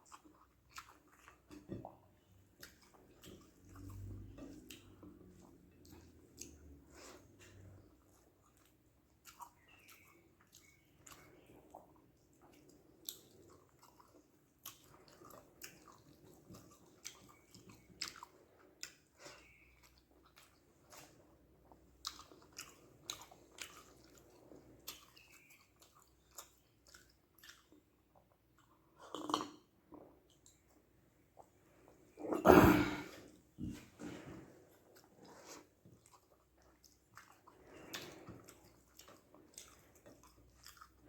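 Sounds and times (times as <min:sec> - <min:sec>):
wet chewing and mouth clicks: 0:00.0 - 0:32.1, 0:33.3 - 0:41.0.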